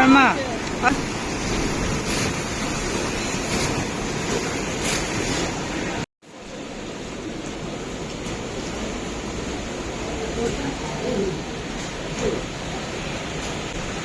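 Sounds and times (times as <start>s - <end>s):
river rushing in flood: 0.0s - 14.0s.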